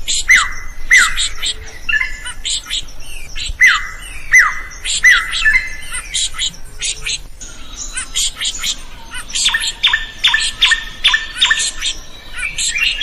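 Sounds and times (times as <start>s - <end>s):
bird whistling: 0.1s - 13.0s.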